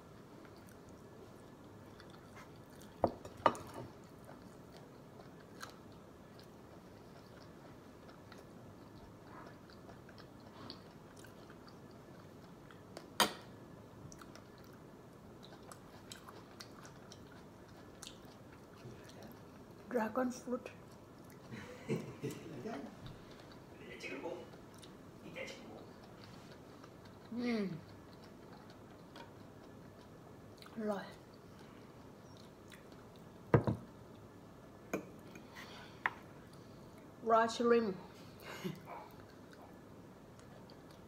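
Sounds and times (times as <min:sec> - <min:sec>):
close-up chewing: 0:00.0 - 0:13.2, 0:13.8 - 0:34.4, 0:38.2 - 0:41.0.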